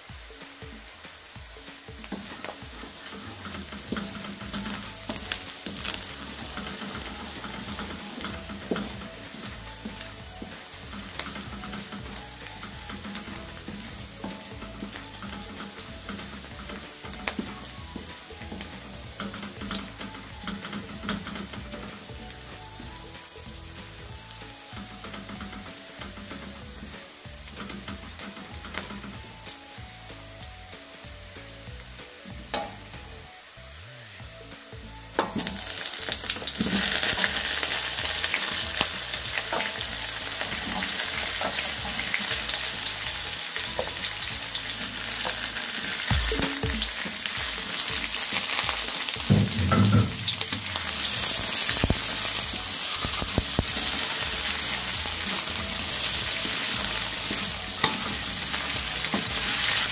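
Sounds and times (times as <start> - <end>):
food sizzling in oil: 0.0 - 59.9
wooden spatula scraping metal wok: 0.8 - 33.0, 35.1 - 59.9.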